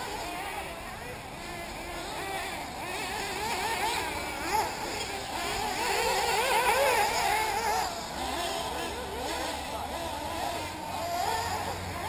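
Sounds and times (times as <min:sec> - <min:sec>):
model buggy engines revving: 0:00.0 - 0:12.0.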